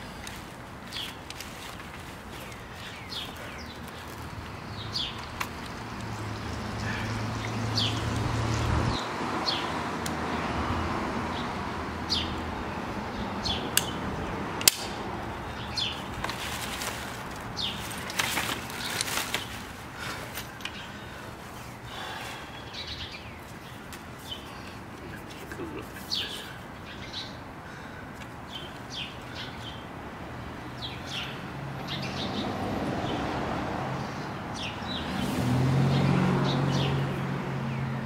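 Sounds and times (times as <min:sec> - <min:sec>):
birds chirping: 0:00.0 - 0:10.5, 0:11.2 - 0:38.0.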